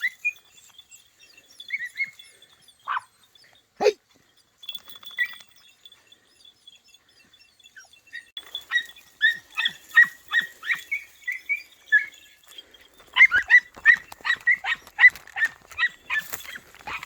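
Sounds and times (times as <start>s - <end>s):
puppies yelping: 0.0s - 4.0s, 5.0s - 17.0s.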